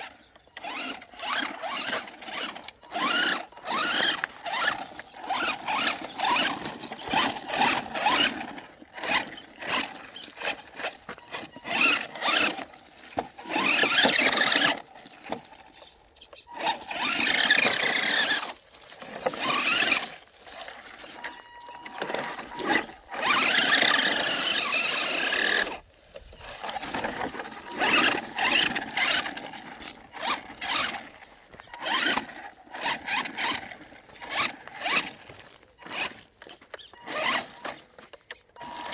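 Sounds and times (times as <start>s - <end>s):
toy car motor whining: 0.0s - 38.9s.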